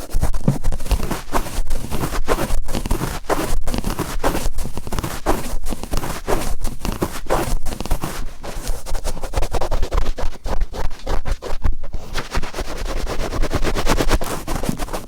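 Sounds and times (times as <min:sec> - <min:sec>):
cotton swab rubbing in ear: 0:00.0 - 0:15.0.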